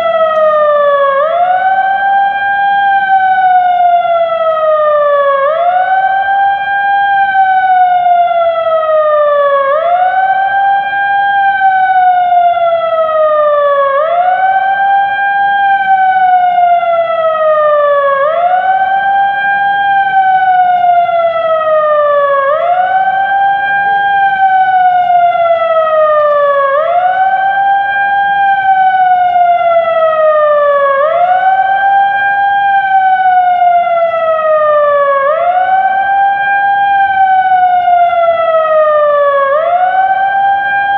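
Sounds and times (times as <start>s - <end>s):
siren wailing: 0.0s - 40.9s.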